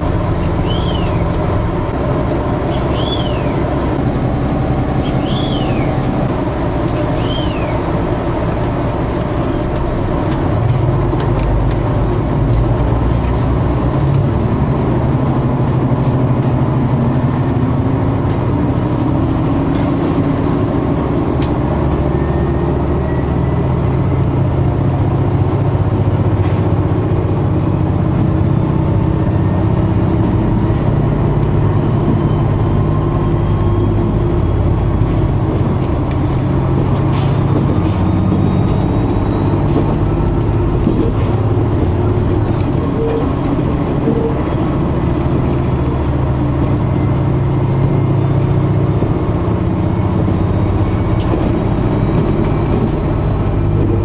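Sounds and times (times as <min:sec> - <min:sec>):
diesel engine drone: 0:00.0 - 0:54.0
wheels rumbling on rails: 0:00.0 - 0:54.0.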